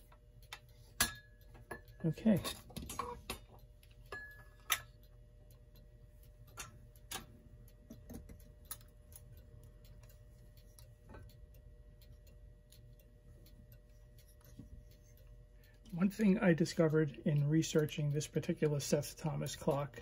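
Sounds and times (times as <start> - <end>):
clicks and taps of clock parts: 0.0 - 20.0
faint hum: 0.0 - 20.0.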